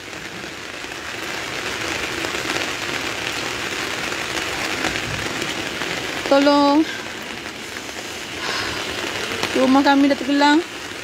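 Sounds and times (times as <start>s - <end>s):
heavy rain on water: 0.0s - 11.0s.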